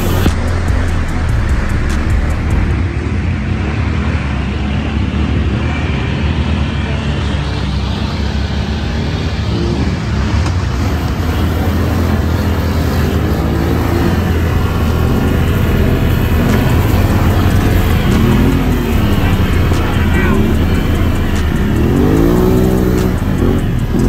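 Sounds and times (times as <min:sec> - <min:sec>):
atv engine drone: 0:00.0 - 0:24.0.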